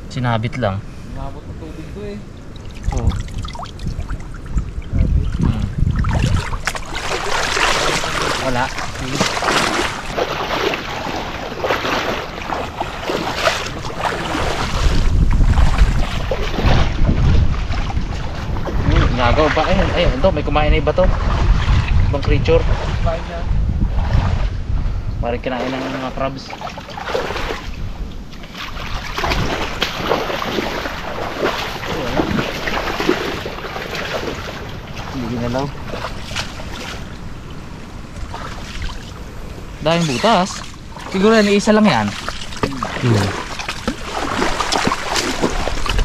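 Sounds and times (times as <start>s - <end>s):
wind buffeting microphone: 0.0s - 46.0s
water splashing from wading: 2.2s - 20.4s, 21.0s - 24.6s, 25.5s - 46.0s.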